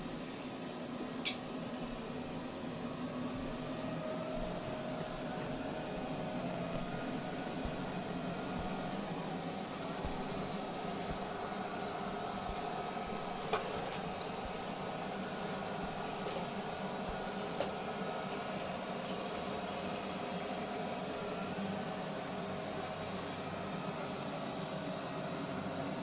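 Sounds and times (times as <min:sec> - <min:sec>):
robot vacuum motor hum: 0:01.7 - 0:22.8.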